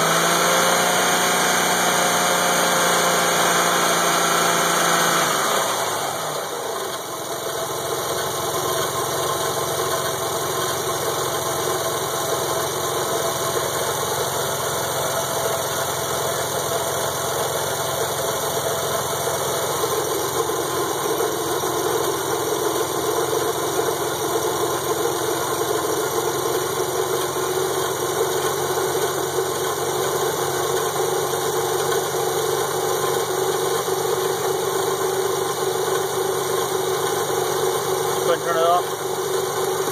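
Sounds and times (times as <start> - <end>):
car engine idling: 4.4 - 39.9.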